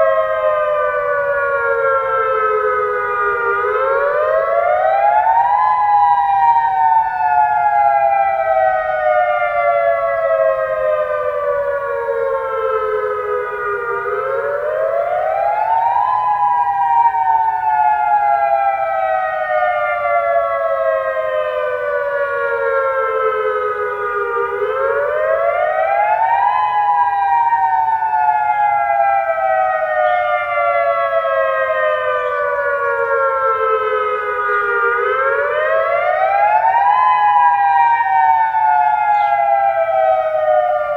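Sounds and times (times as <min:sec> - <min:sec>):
dual-tone warning siren wailing: 0:00.0 - 0:40.9.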